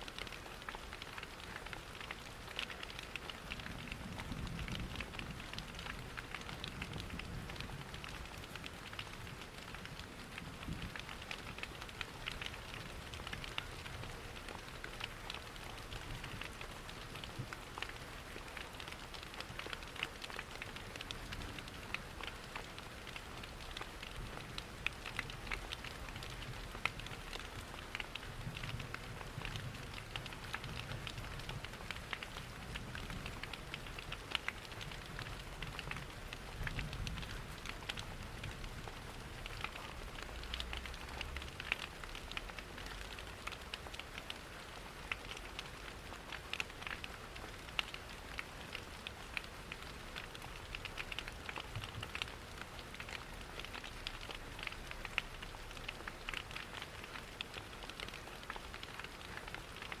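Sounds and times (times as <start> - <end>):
rain pattering: 0.0 - 60.0
wood fire crackling: 0.1 - 60.0.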